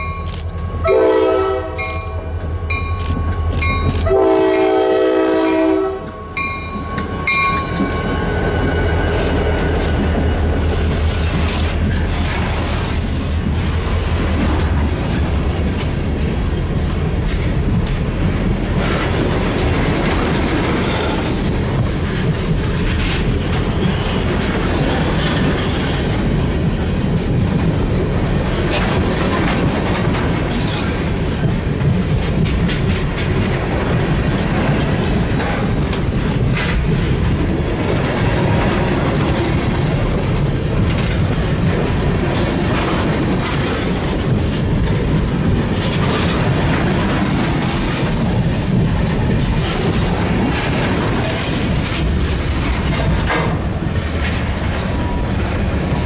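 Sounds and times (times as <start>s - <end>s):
train wheels rumbling on rails: 0.0s - 56.0s
wheels clicking over track: 7.0s - 56.0s.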